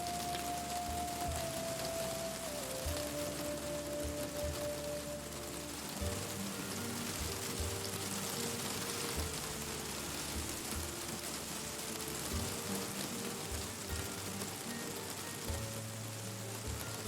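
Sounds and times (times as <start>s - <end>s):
soft music with held notes: 0.0s - 17.0s
steady rain falling: 0.0s - 17.0s.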